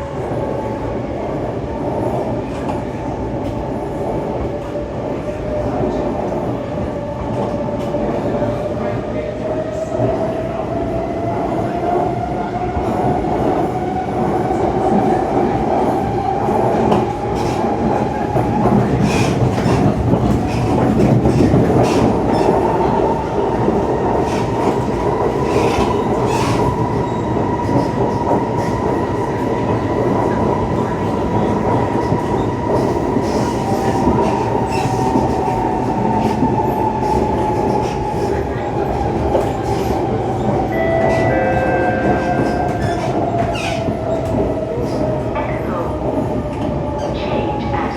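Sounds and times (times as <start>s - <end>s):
train wheels rumbling on track: 0.0s - 47.9s.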